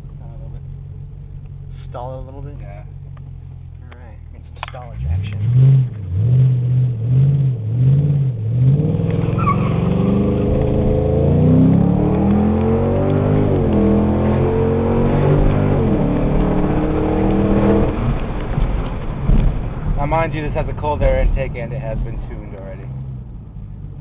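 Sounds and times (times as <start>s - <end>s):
car engine accelerating hard: 4.3s - 24.0s.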